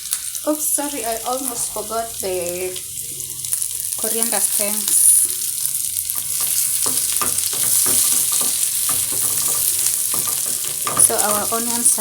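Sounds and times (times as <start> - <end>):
food sizzling in oil: 0.0 - 12.0
utensil scraping in pan: 1.0 - 12.0.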